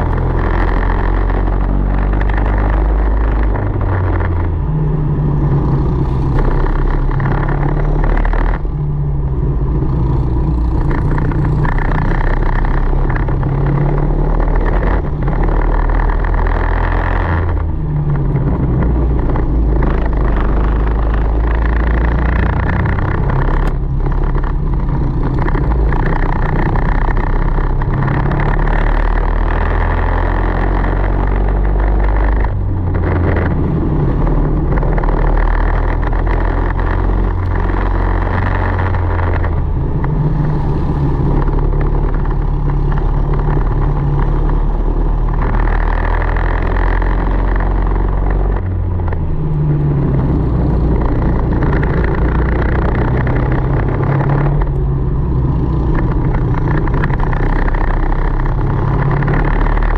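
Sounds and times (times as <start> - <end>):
kart engine at racing speed: 0.0 - 59.9.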